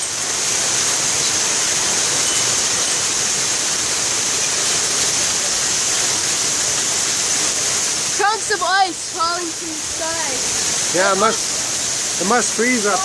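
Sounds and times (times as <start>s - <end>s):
hail and rain pelting down: 0.0s - 13.0s.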